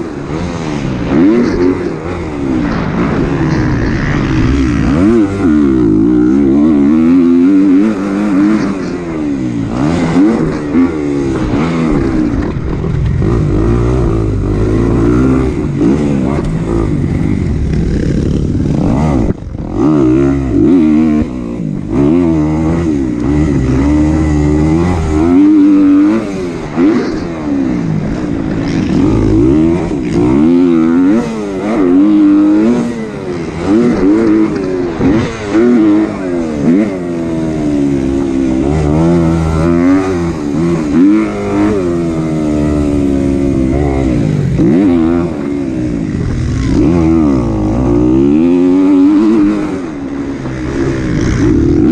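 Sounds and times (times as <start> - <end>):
motocross engine under hard throttle: 0.0 - 51.9.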